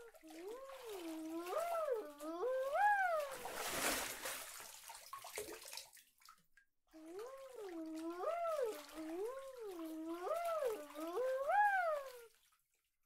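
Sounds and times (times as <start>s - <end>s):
water splashing in a bathtub: 0.0s - 13.0s.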